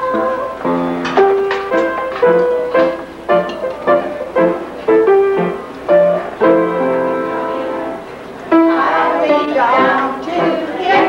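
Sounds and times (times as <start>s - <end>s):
band playing with piano: 0.0s - 11.0s.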